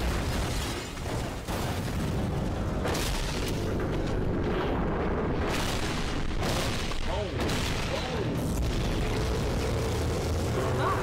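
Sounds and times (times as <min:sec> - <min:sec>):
continuous low rumble: 0:00.0 - 0:11.0
explosions and booms: 0:00.0 - 0:11.0.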